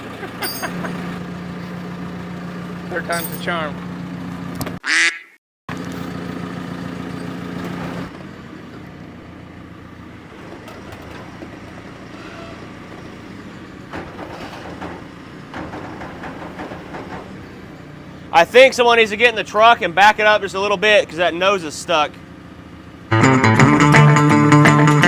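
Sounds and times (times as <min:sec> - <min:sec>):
engine idling: 0:00.0 - 0:04.8, 0:05.7 - 0:25.0.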